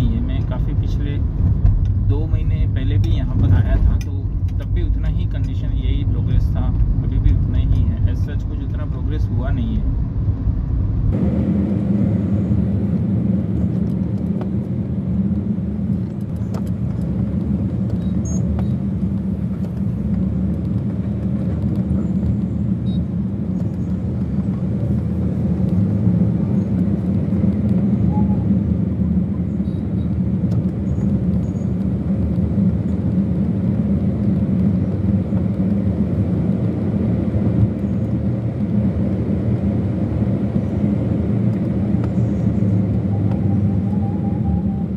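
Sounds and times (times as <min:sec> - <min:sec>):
vehicle engine and tyres rumbling: 0:00.0 - 0:44.9.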